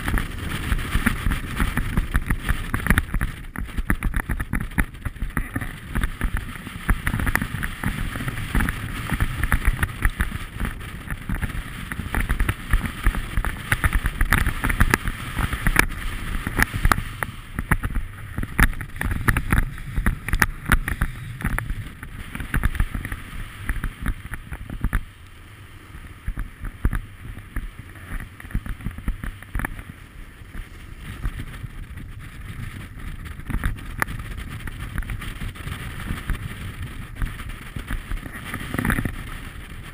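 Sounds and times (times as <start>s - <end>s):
ski edges scraping on snow: 0.0s - 39.9s
wind rushing over microphone: 0.0s - 39.9s.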